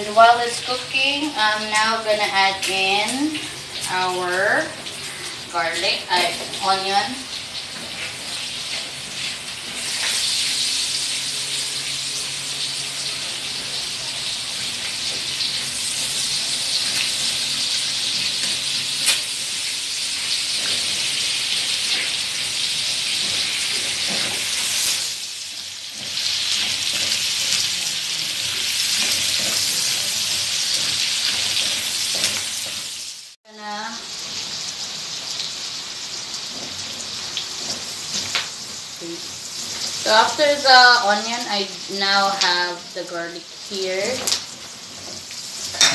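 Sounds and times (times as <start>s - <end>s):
chicken and onion sizzling in wok: 0.0s - 45.9s.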